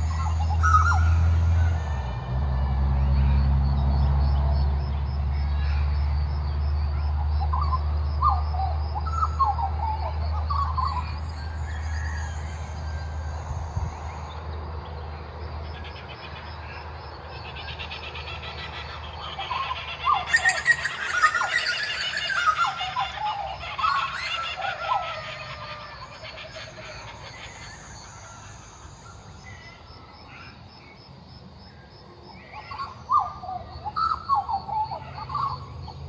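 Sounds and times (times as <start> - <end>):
birds calling fluty notes: 0.0 - 30.6, 32.0 - 36.0.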